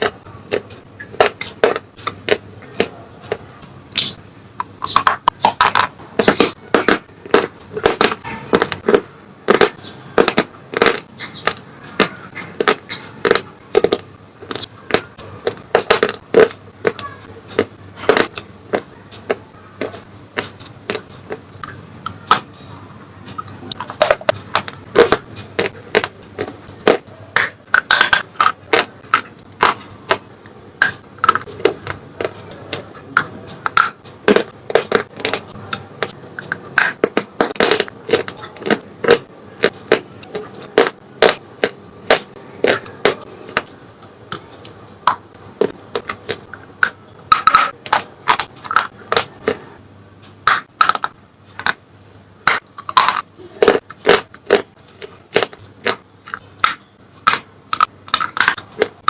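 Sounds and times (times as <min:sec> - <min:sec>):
slate pencils being chewed: 0:00.0 - 0:59.0.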